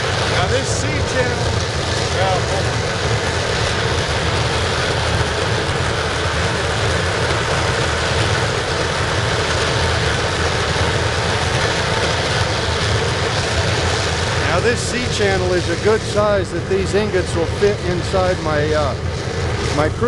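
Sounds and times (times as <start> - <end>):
oil burner roaring: 0.0 - 20.0.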